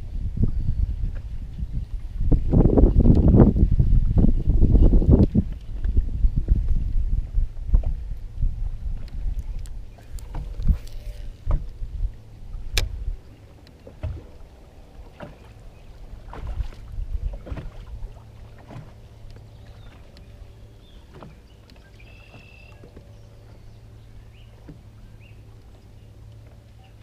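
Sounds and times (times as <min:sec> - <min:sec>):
steady low hum: 0:00.0 - 0:27.0
water lapping against boat hull: 0:00.0 - 0:27.0.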